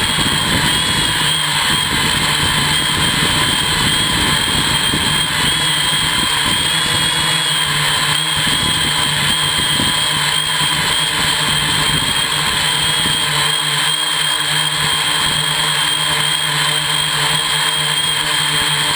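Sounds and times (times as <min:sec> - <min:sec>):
drone motors and propellers whining: 0:00.0 - 0:18.9.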